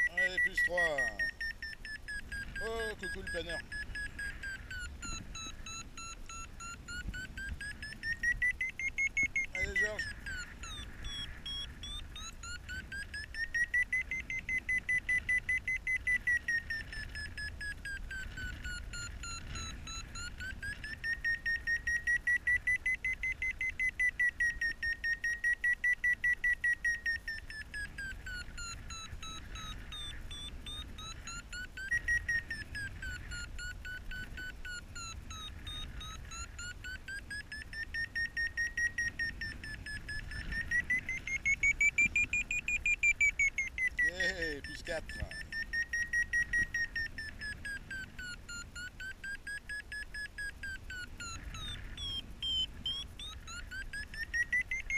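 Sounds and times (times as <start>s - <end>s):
faint wind rumble: 0.0s - 54.9s
variometer beeping tone: 0.0s - 54.9s.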